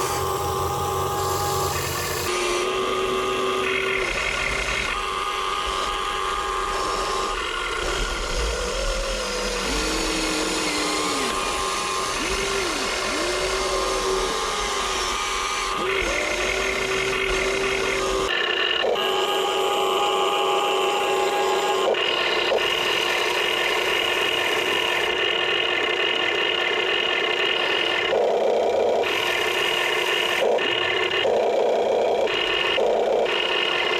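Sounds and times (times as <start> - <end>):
small electric gear motors whining: 0.0 - 33.9.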